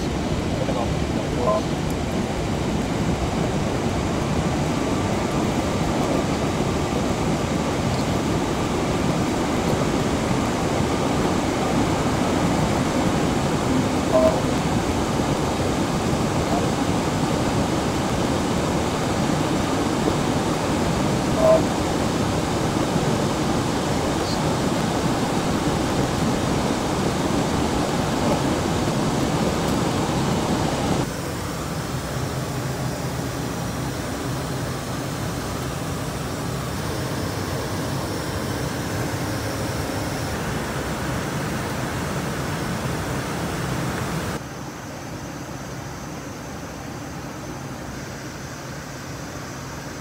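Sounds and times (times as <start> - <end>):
jet cockpit rushing noise: 0.0 - 44.4.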